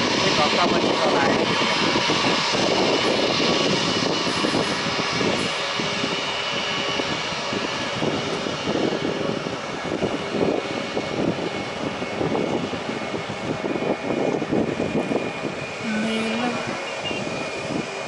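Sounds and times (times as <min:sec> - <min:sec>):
continuous rushing noise: 0:00.0 - 0:18.0
jet engines high whine: 0:00.0 - 0:18.0.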